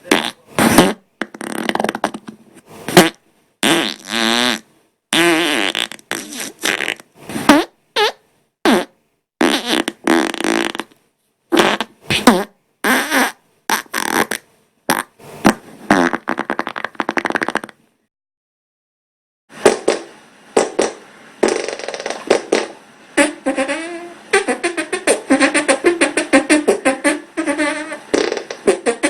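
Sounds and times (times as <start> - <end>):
person farting: 0.0 - 17.8, 19.6 - 29.0.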